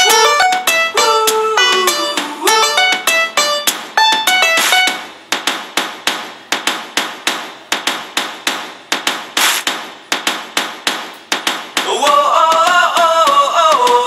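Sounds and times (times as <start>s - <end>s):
percussion music: 0.0s - 14.0s.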